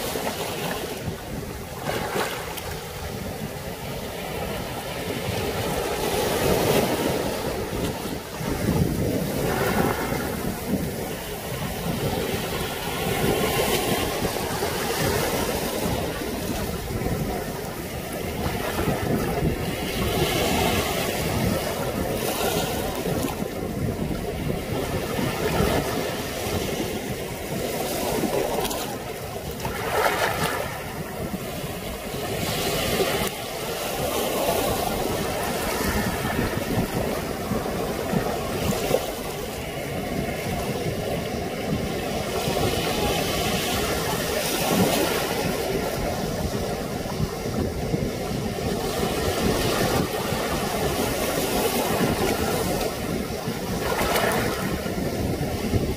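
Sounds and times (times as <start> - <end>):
low wind rumble on microphone: 0.0 - 55.9
small waves washing over sand: 0.0 - 55.9.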